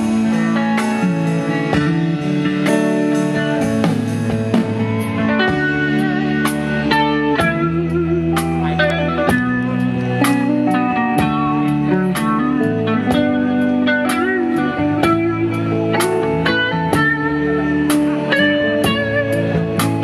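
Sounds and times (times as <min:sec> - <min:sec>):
blues-rock band playing: 0:00.0 - 0:20.0
electric guitar lead line: 0:00.0 - 0:20.0.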